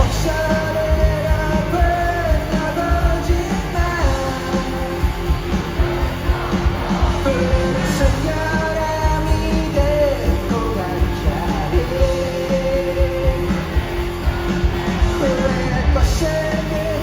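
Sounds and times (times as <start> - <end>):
rock band music: 0.0 - 17.0
singer holding long notes: 0.0 - 17.0.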